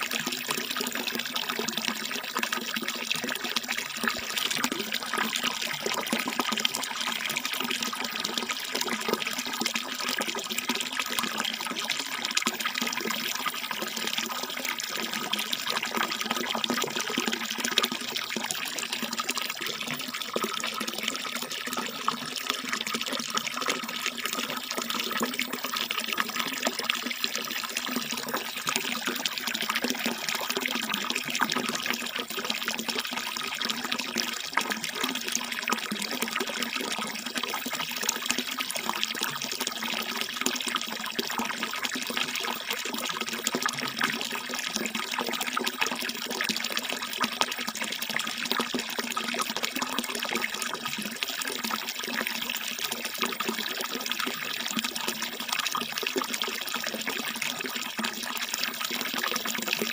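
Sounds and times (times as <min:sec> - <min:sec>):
water pouring into a pool: 0:00.0 - 0:59.9.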